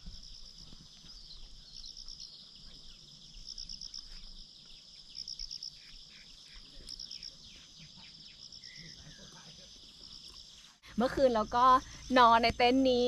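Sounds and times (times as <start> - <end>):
insect pulsed chirp: 0.0 - 13.0
insects buzzing: 0.0 - 13.0.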